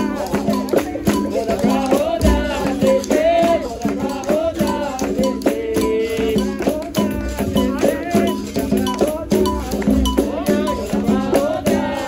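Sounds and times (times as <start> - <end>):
berimbau: 0.0 - 12.0
hand percussion: 0.0 - 12.0
sharp rhythmic strikes: 0.0 - 12.0.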